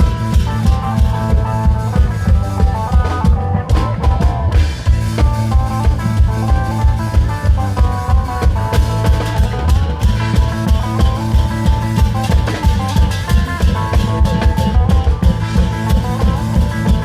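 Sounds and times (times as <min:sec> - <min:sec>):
drums beating fast rhythm: 0:00.0 - 0:17.0.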